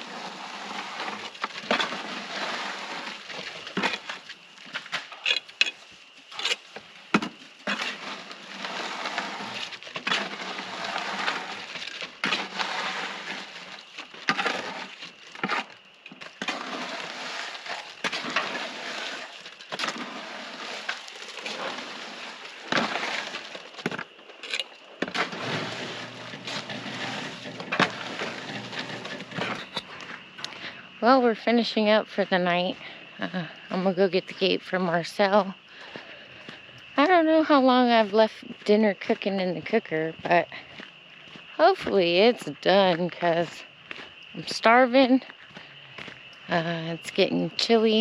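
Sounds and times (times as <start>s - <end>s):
crunching and scraping: 0.0s - 48.0s.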